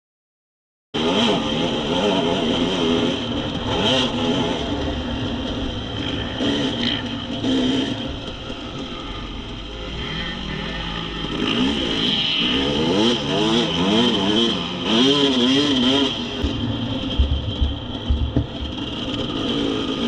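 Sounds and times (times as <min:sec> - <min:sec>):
dirt bike engine revving: 0:01.0 - 0:20.0
steady high whine: 0:02.4 - 0:20.0.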